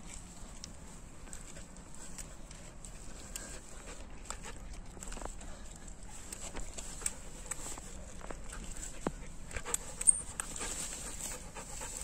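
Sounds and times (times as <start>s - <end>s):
dog panting: 1.2s - 12.0s.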